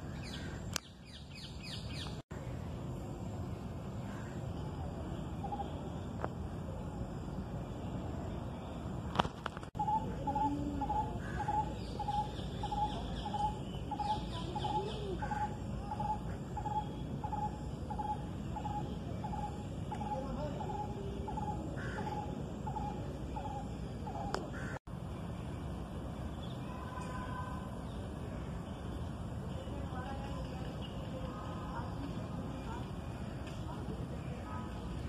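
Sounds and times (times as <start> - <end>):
steady background hiss: 0.0 - 35.0.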